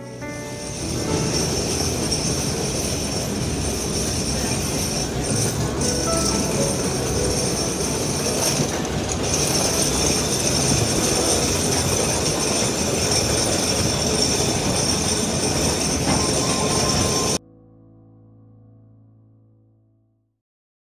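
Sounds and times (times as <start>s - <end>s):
high wheel squeal: 0.0s - 17.4s
tram rumbling on rails: 0.0s - 17.4s.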